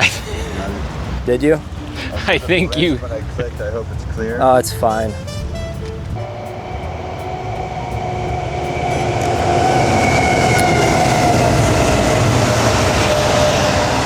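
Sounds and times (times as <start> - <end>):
faint steady tones: 0.0 - 14.0
train rumbling on tracks: 0.0 - 14.0.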